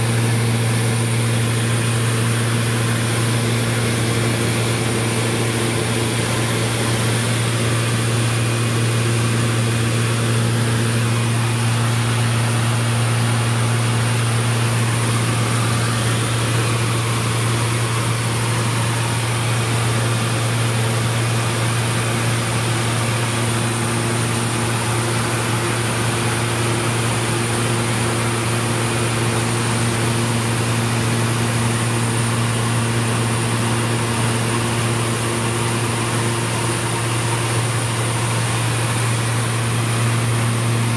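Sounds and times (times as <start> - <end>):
aircraft propeller engine drone: 0.0 - 40.9.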